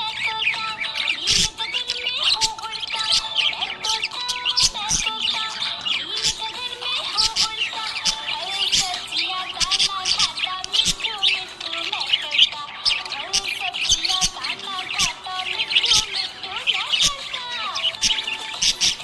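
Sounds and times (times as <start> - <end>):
budgerigars chirping and warbling: 0.0 - 19.0.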